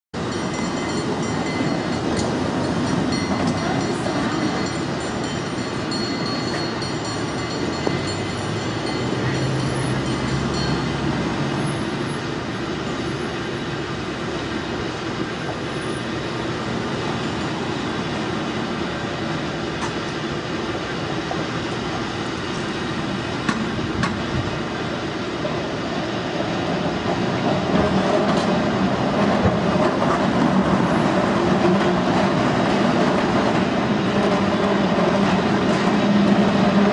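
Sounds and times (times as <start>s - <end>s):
cable car rumbling on track: 0.2s - 36.9s.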